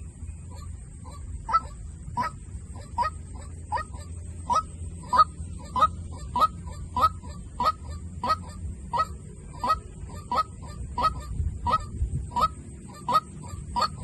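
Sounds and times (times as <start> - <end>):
bird honking calls: 0.0 - 14.0.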